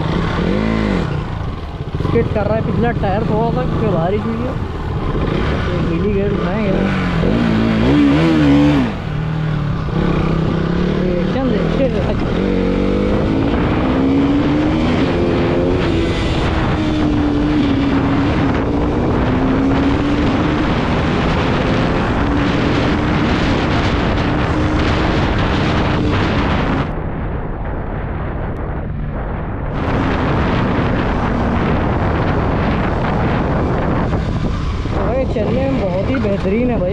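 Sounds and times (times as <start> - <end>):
motorcycle engine running: 0.0 - 36.9
wind rush on microphone: 0.0 - 36.9.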